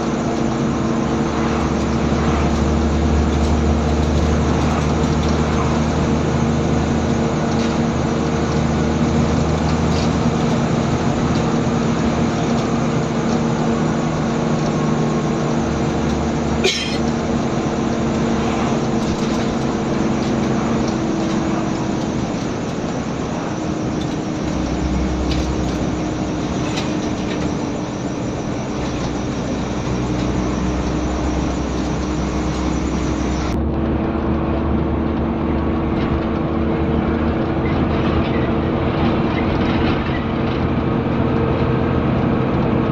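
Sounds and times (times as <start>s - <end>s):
bus diesel engine changing gear: 0.0s - 42.9s.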